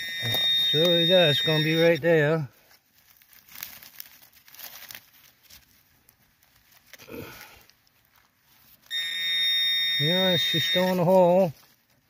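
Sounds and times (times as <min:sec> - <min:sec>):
small crackles: 0:00.0 - 0:12.0
dry leaves rustling: 0:00.1 - 0:09.2, 0:10.0 - 0:12.0.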